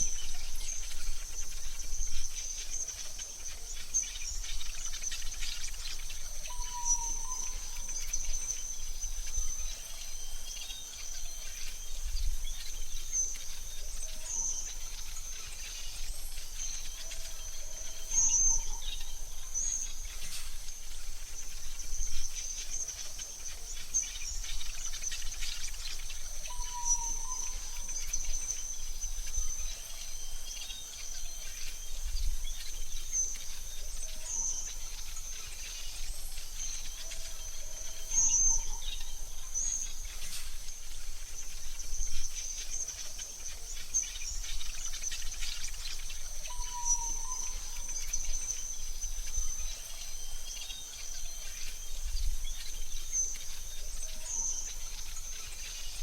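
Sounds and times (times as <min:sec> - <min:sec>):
high insect trill: 0:00.0 - 0:56.0.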